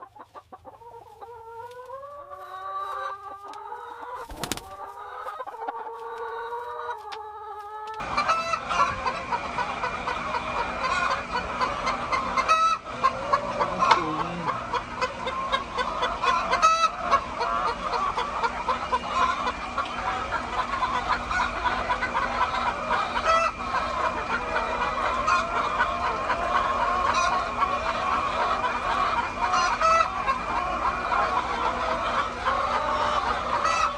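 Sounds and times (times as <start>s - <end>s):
hens clucking and cackling: 0.0s - 33.9s.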